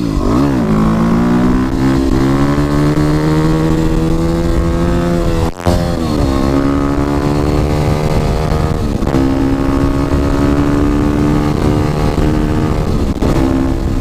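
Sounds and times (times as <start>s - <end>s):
motorcycle engine running: 0.0s - 14.0s
wind rush: 0.0s - 14.0s.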